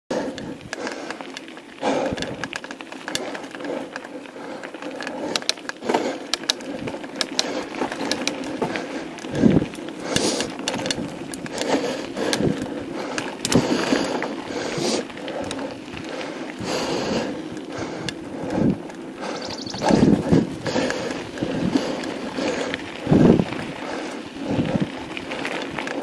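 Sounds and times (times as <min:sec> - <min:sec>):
bike rattling and clicking: 0:00.1 - 0:26.0
tyres crunching over stones: 0:00.4 - 0:26.0.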